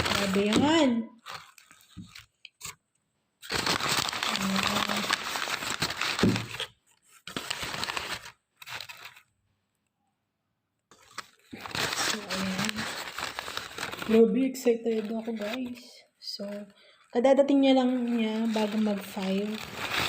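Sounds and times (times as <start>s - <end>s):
plastic packaging crinkling: 0.0s - 2.8s, 3.4s - 9.3s, 10.9s - 20.0s.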